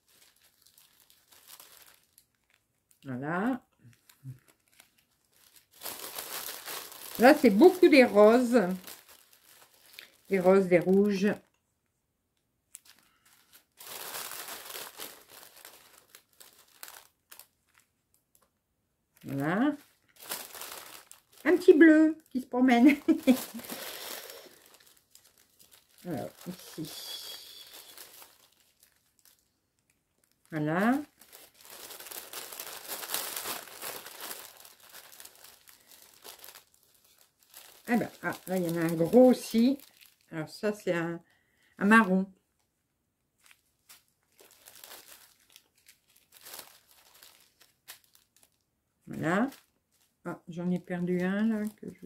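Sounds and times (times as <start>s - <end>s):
plastic bags crinkling: 0.0s - 11.5s, 12.7s - 40.8s, 43.4s - 50.2s, 50.8s - 52.0s.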